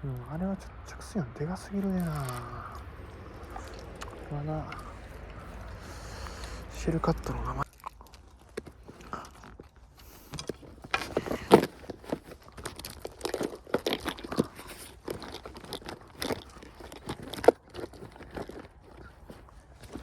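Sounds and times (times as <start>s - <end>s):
crunching and crackling: 0.0s - 20.0s.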